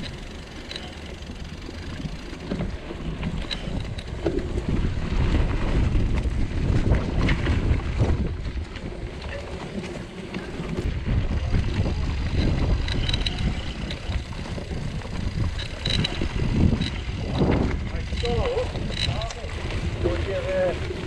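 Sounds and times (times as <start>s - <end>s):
bike rattling: 0.0s - 21.0s
bike tyres rumbling on dirt: 0.0s - 21.0s
wind buffeting microphone: 1.1s - 21.0s.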